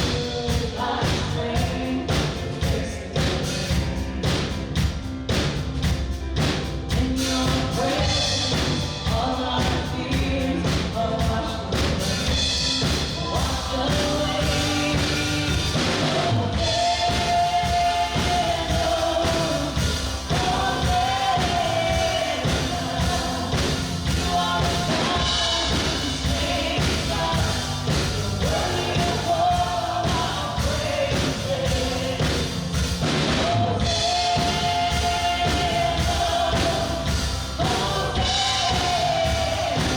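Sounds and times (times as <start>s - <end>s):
voices singing: 0.0s - 4.8s, 6.8s - 39.9s
worship band with drums: 0.0s - 39.9s.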